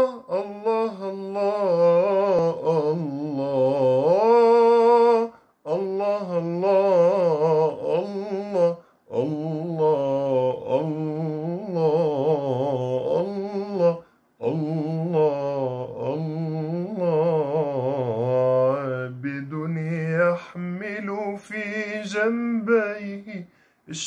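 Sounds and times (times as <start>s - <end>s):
man singing unaccompanied: 0.0s - 24.0s.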